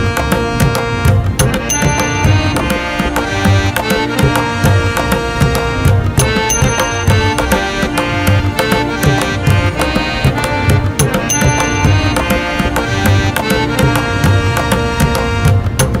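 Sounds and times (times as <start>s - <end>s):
held melodic tones: 0.0s - 16.0s
steady drum beat: 0.0s - 16.0s.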